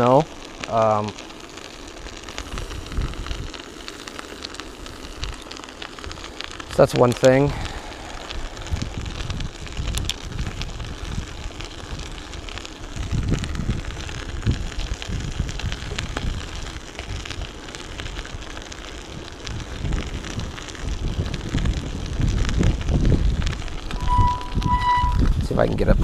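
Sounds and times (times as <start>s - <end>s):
bike tires crunching over snow: 0.0s - 26.0s
wind buffeting microphone: 2.2s - 3.6s, 6.0s - 26.0s.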